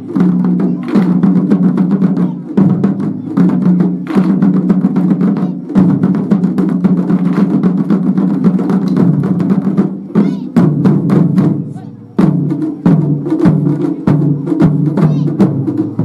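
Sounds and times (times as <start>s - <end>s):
taiko drums in fast rhythm: 0.0s - 16.0s.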